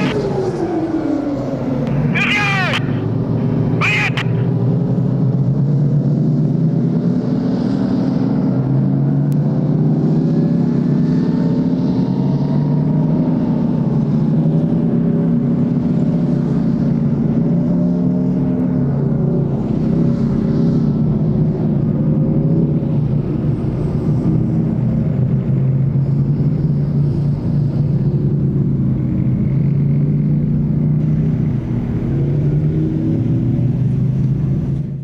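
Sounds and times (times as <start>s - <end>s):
rumble of tracks: 0.0s - 35.0s
tank engines running: 0.0s - 35.0s.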